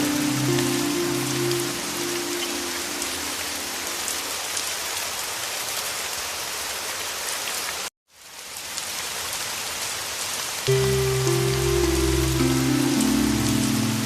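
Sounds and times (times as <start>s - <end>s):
heavy rain hissing: 0.0s - 7.9s, 8.8s - 14.0s.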